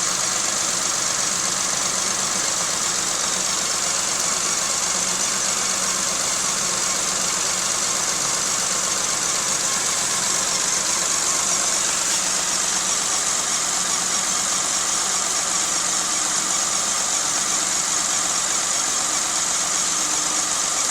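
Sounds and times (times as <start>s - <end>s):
car engine idling roughly: 0.0s - 20.9s.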